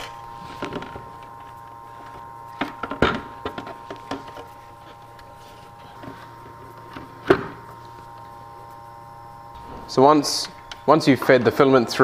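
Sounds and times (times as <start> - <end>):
printer humming: 0.0 - 12.0.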